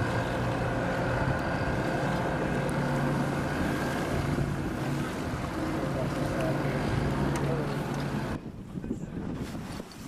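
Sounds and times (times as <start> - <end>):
wind on microphone: 0.0 - 6.0, 8.0 - 10.0
boat engine humming: 0.0 - 10.0.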